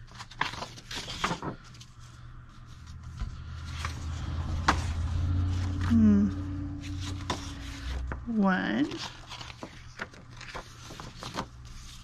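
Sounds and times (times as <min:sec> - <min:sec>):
low steady hum: 0:00.0 - 0:12.0
paper rustling: 0:00.0 - 0:12.0.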